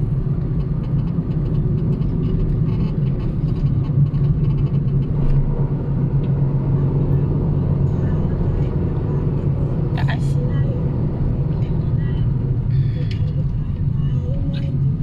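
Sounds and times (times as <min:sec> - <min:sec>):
car engine and tyre hum: 0:00.0 - 0:15.0.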